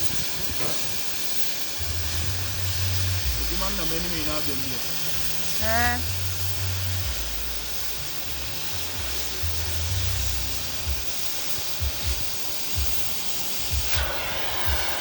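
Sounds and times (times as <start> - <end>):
gas cutting torch hissing: 0.0 - 15.0.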